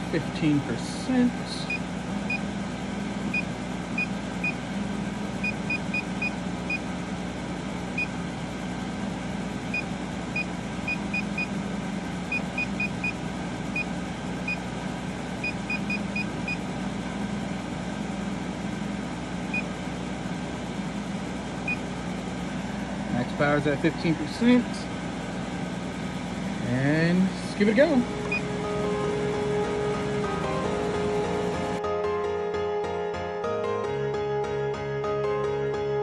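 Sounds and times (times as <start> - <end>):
laser machine low hum: 0.0 - 31.8.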